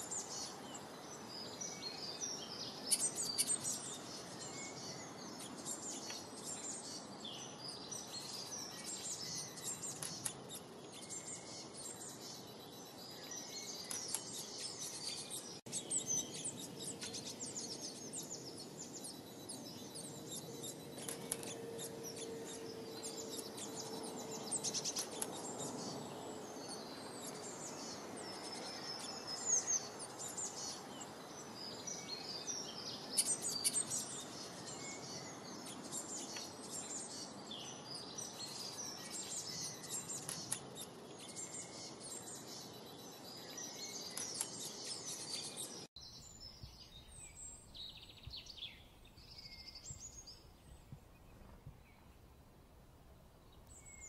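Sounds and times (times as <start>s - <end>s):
songbirds chirping and singing: 0.0s - 52.3s, 53.4s - 54.0s
outdoor background noise: 0.0s - 54.0s.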